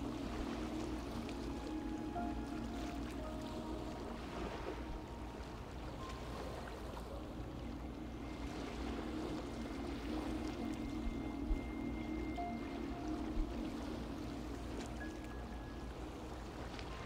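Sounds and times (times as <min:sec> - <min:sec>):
gentle sea surf: 0:00.0 - 0:17.0
soft ambient music: 0:00.0 - 0:17.0.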